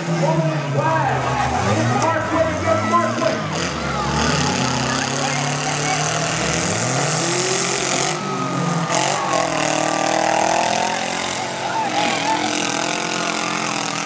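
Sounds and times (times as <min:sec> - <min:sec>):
small car engines revving: 0:00.0 - 0:14.0.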